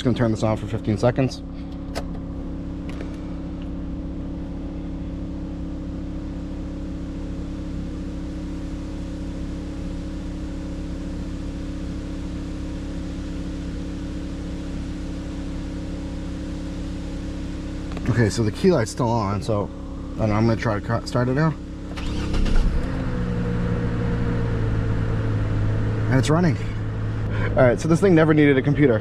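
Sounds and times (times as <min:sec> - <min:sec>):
generator engine hum: 0:00.0 - 0:29.0.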